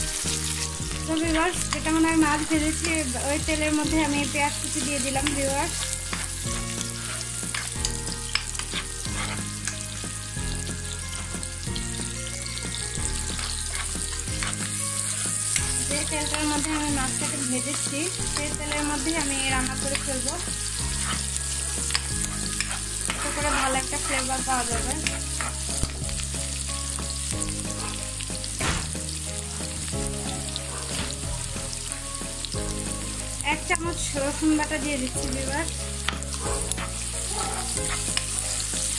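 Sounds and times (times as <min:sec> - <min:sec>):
spatula stirring in wok: 0:00.0 - 0:33.4, 0:35.2 - 0:38.9
onions sizzling in oil: 0:00.0 - 0:38.9.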